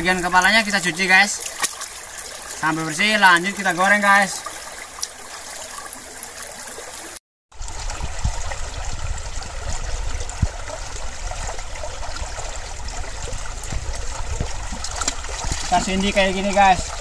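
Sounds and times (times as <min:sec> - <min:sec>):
stream water flowing over rocks: 0:00.0 - 0:17.0.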